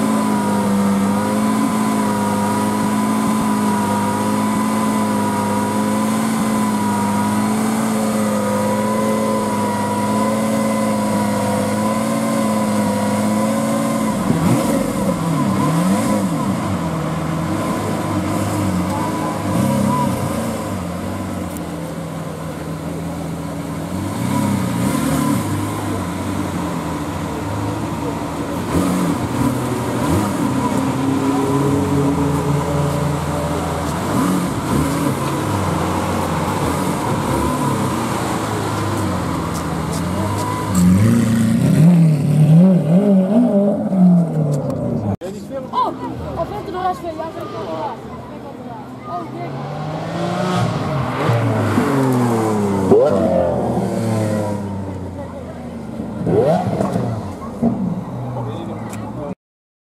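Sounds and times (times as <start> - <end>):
car engine idling and revving: 0.0 - 59.4.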